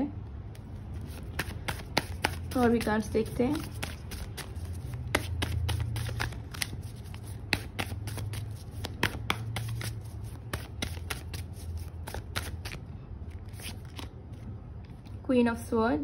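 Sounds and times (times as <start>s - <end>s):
cards being shuffled: 0.5s - 14.5s.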